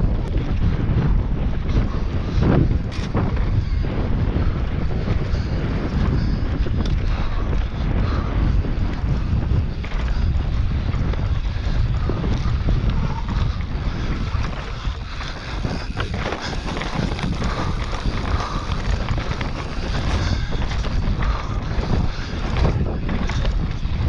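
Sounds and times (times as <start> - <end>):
bike knocks and rattles: 0.0 - 24.0
mountain bike rumbling on grass: 0.0 - 24.0
wind buffeting microphone: 0.0 - 24.0.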